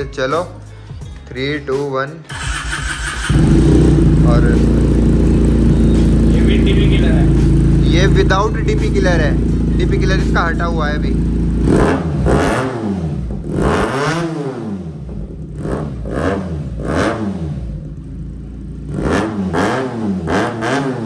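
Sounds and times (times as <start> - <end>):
motorcycle engine revving: 2.3 - 21.0.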